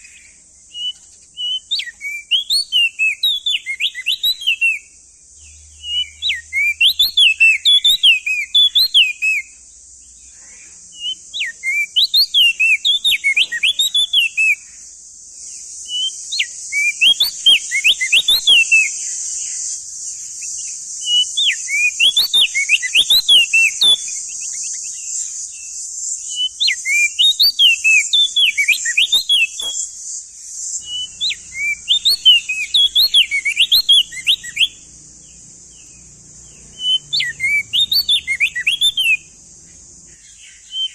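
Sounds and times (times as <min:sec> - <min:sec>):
bird singing whistled notes: 0:00.0 - 0:40.9
steady high hiss: 0:00.0 - 0:40.9.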